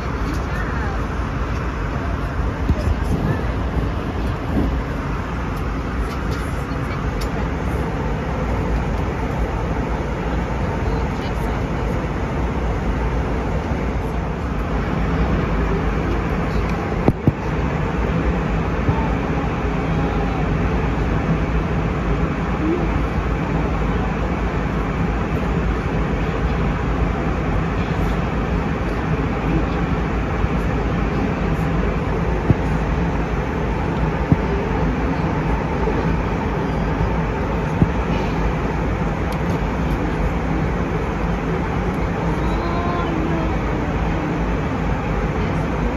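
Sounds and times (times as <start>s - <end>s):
airplane cabin engine roar: 0.0s - 45.9s.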